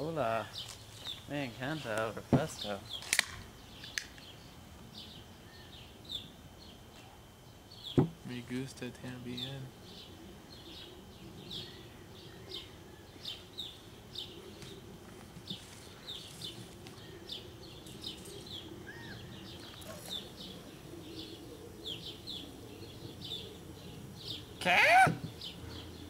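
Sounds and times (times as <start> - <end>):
faint low hum: 0.0 - 26.0
small birds chirping: 0.0 - 26.0.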